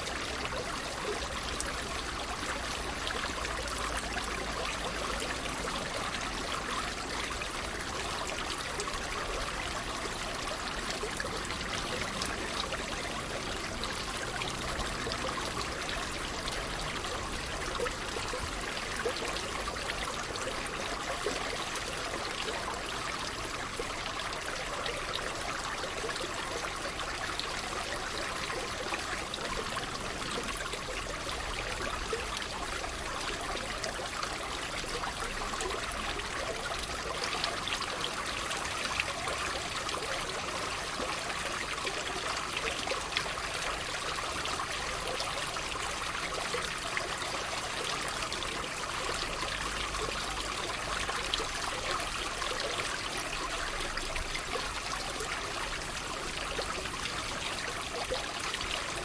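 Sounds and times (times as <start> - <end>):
water trickling and babbling: 0.0 - 59.0.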